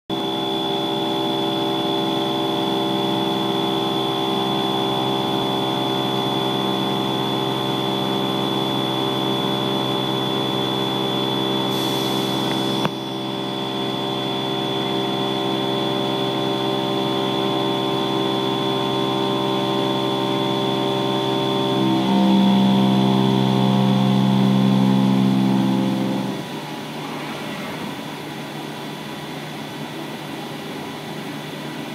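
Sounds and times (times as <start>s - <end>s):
milling machine spindle hum: 0.1s - 31.9s.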